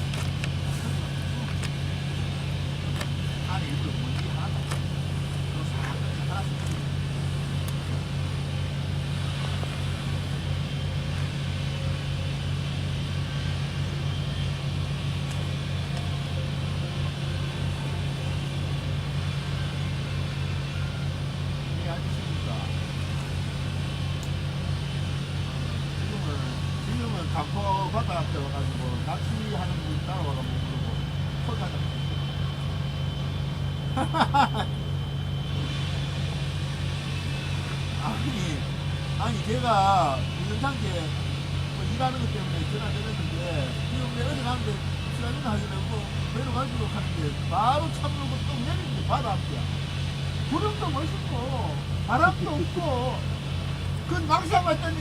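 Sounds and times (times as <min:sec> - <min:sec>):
engine idling: 0:00.0 - 0:55.0
thin high whine: 0:00.0 - 0:55.0.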